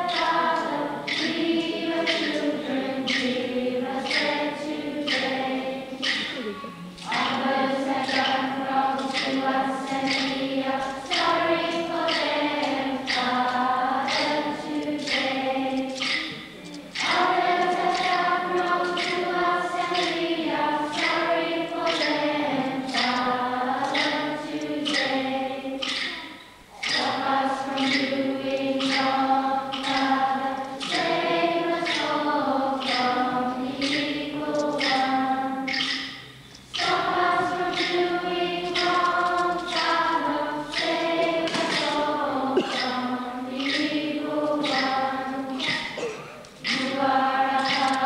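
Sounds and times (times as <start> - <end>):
children's choir singing: 0.0 - 48.0.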